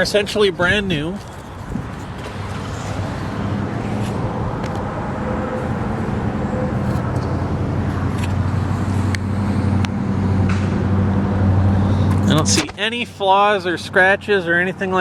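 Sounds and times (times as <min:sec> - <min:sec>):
even hum: 0:00.0 - 0:13.2
motor vehicle rumble: 0:00.0 - 0:14.9.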